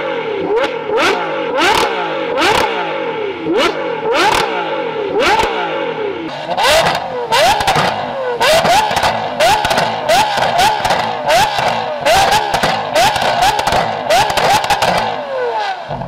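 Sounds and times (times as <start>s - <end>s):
car engine revving: 0.0s - 16.0s
car engine blipped with cracks: 0.5s - 16.0s.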